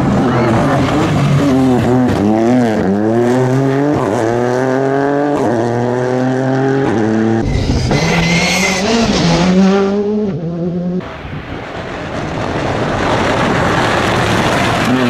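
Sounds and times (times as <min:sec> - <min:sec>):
rally car engine under full throttle: 0:00.0 - 0:15.0
rally engine revving: 0:00.0 - 0:15.0.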